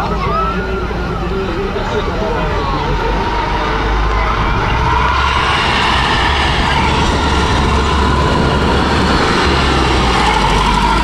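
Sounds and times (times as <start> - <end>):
diesel engine rumbling under load: 0.0 - 11.0.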